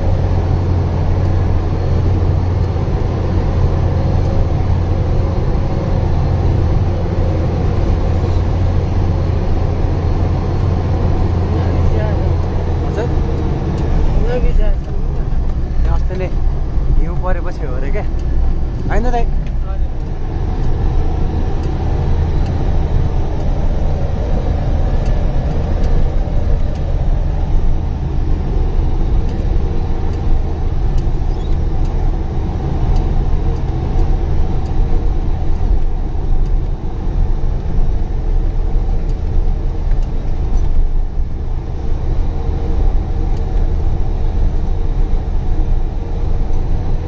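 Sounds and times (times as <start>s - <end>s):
truck engine rumble: 0.0s - 47.0s.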